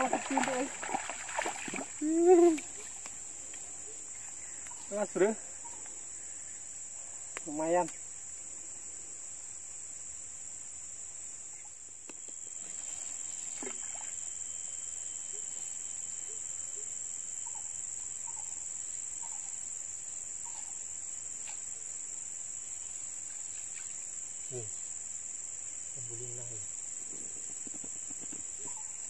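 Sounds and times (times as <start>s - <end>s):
insect chorus drone: 0.0s - 29.0s.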